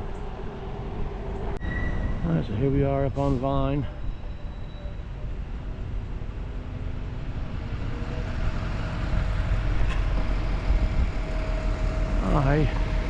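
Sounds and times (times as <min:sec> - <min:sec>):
street traffic rumble: 0:00.0 - 0:13.0
vehicle whine: 0:00.0 - 0:13.0.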